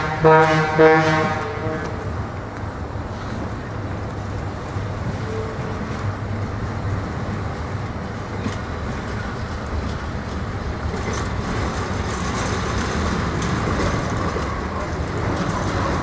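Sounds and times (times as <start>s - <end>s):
train rumbling slowly: 0.0s - 16.0s
wheels rolling on rails: 1.3s - 16.0s
wheels clicking and rattling: 1.4s - 16.0s.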